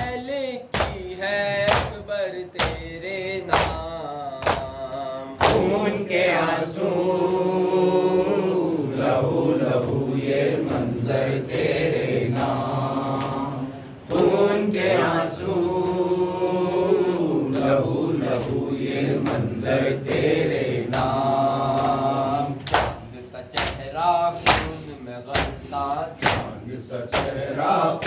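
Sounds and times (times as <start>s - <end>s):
men chanting a lament in chorus: 0.0s - 28.0s.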